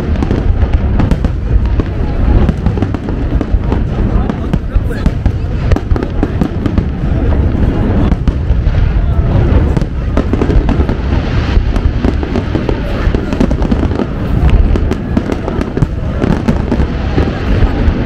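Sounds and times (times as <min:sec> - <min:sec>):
fireworks bangs and crackling: 0:00.0 - 0:18.0
heavy low rumble: 0:00.0 - 0:18.0.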